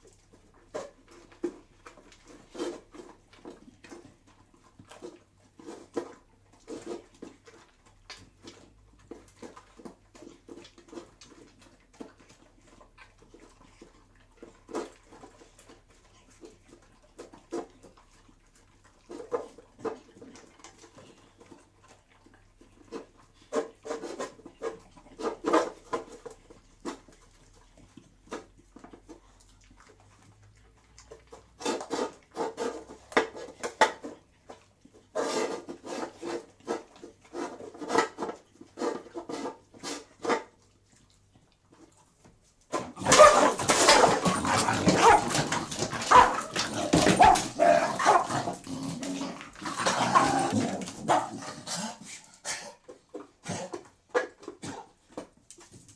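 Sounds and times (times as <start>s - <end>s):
dogs fighting and growling: 0.0s - 55.9s
dogs sniffing and eating: 0.0s - 55.9s.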